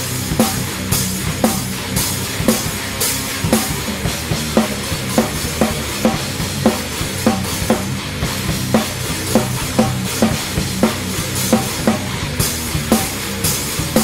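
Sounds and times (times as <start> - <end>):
drum kit beat: 0.0 - 14.0
low guitar and bass tones: 0.0 - 14.0.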